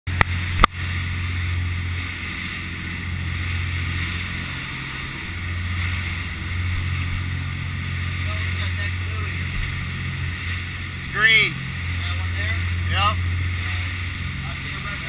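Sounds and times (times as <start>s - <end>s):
boat diesel engines droning: 0.1s - 15.0s
hull pounding through waves: 0.1s - 15.0s
rush of spray and wind: 0.1s - 15.0s.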